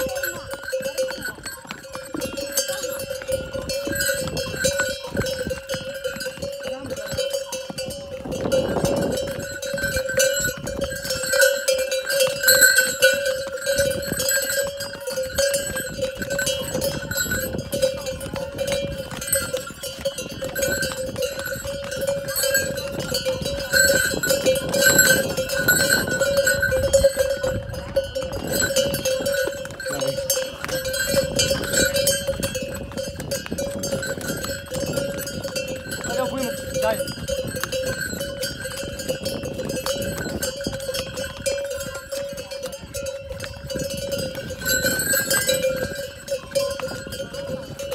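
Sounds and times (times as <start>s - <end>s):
horse harness bells jingling: 0.0s - 47.9s.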